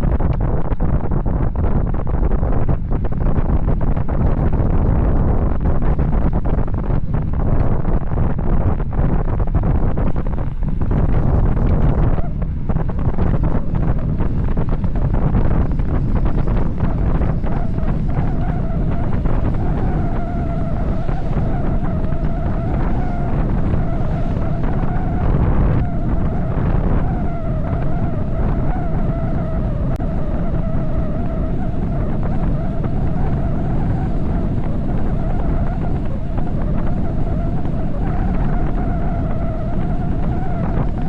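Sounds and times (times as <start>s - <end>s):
wind buffeting microphone: 0.0s - 41.0s
wavering whine-like tone: 2.0s - 41.0s.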